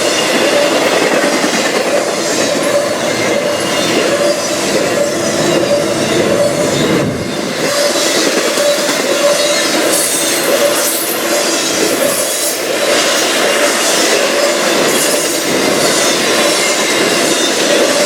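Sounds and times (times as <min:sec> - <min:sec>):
high wheel squeal: 0:00.0 - 0:18.0
train wheels running over track: 0:00.0 - 0:18.0.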